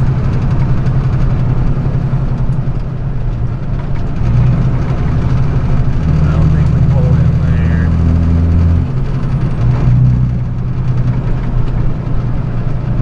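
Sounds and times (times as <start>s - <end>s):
road noise: 0.0s - 13.0s
truck engine running: 0.0s - 13.0s.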